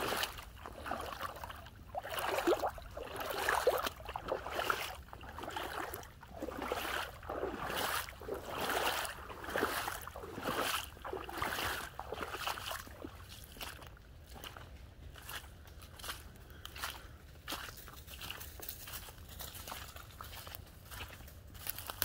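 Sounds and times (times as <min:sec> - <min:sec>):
footsteps squelching through mud: 0:00.0 - 0:22.0.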